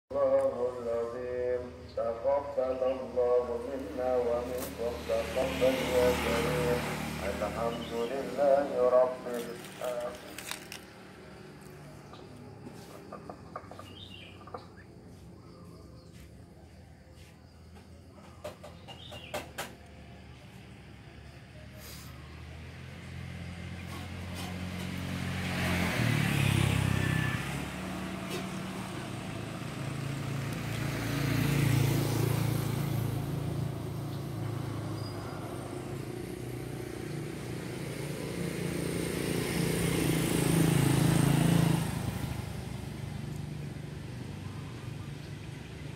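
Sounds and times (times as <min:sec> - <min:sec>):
low engine hum: 0:00.1 - 0:45.9
vehicles passing on road: 0:00.1 - 0:45.9.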